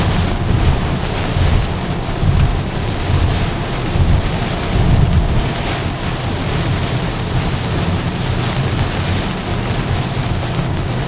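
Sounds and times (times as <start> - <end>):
rain and wind on car: 0.0 - 11.0
tyre noise on wet road: 0.0 - 11.0.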